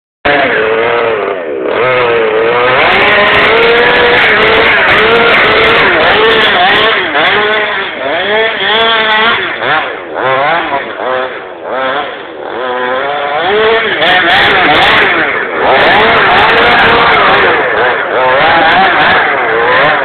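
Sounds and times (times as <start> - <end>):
small two-stroke engine revving: 0.3 - 20.0.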